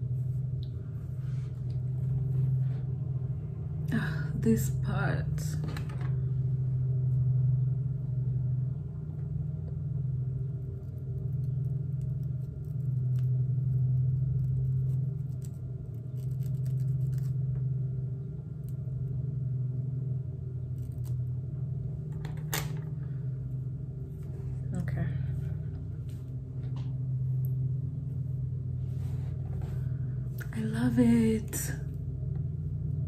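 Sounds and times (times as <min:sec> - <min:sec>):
low machine-like hum: 0:00.0 - 0:33.0.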